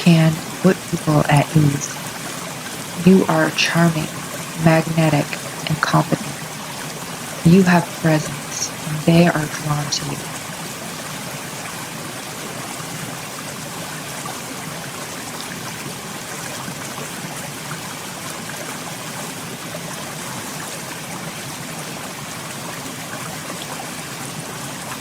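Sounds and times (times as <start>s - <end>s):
running water trickling: 0.0s - 25.0s.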